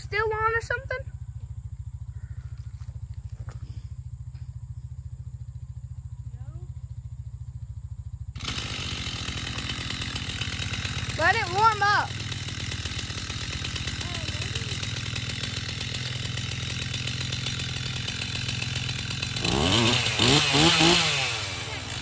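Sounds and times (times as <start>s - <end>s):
chainsaw idling and revving: 0.0s - 22.0s.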